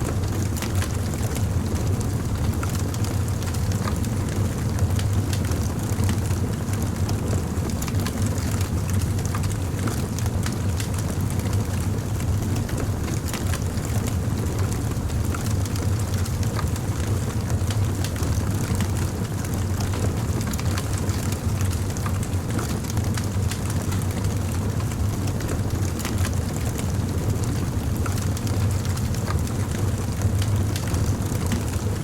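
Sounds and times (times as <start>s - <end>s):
wood fire crackling: 0.1s - 32.0s.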